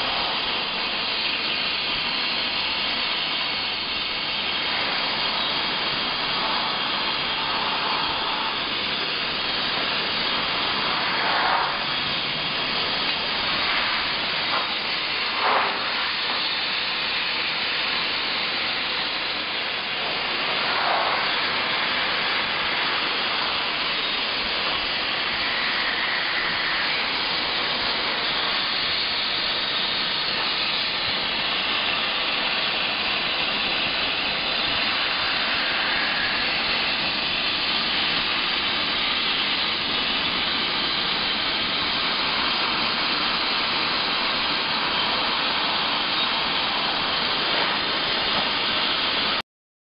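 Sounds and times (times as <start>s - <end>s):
gas burner flames rushing: 0.0s - 49.4s.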